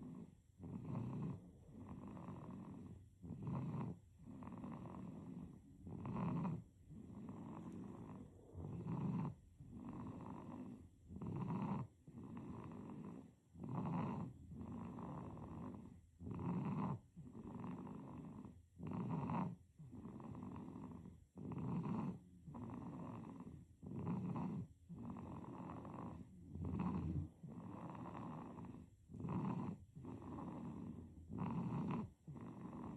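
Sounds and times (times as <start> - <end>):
baby snoring: 0.0 - 32.9.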